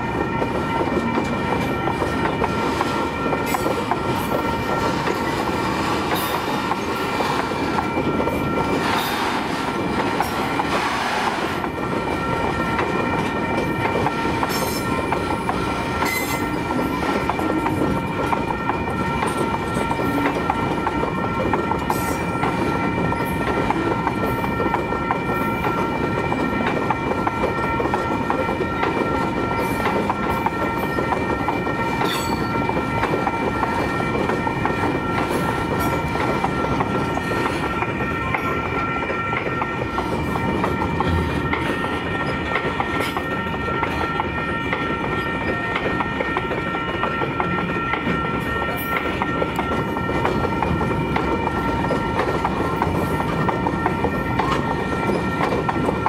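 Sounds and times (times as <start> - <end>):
level-crossing warning bell: 0.0 - 56.0
train wheels clicking over rail joints: 0.0 - 56.0.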